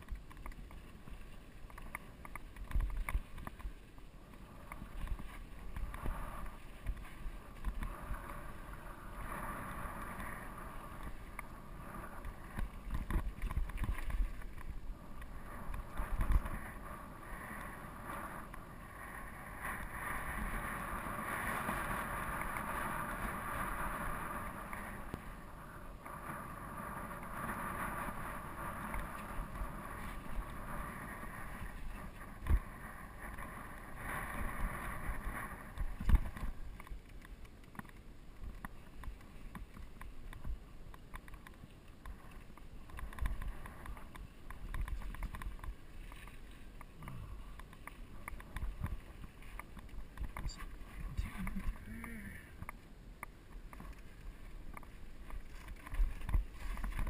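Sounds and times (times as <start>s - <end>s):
wind on microphone: 0.0s - 57.0s
bike rattling over bumps: 4.7s - 51.9s, 52.5s - 57.0s.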